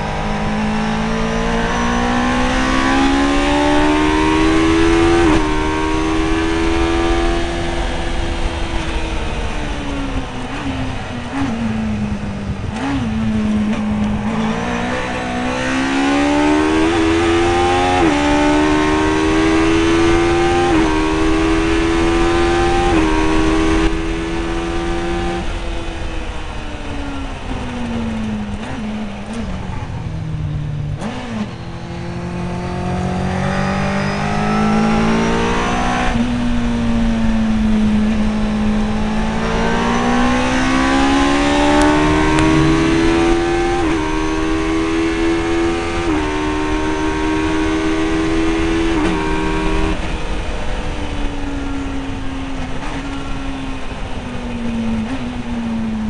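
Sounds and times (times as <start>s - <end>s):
wind noise: 0.0s - 31.6s, 32.3s - 56.0s
race car engine: 0.0s - 56.0s
road noise: 0.0s - 56.0s.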